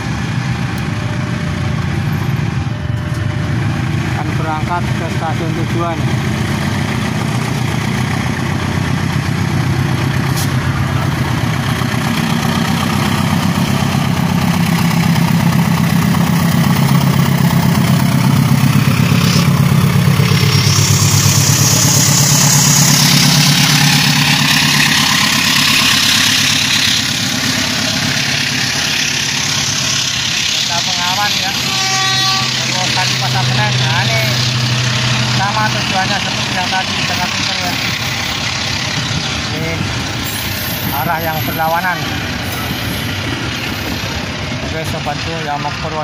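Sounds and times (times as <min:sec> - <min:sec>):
locomotive engine rumble: 0:00.0 - 0:46.0
train wheels hissing on rails: 0:05.2 - 0:45.3.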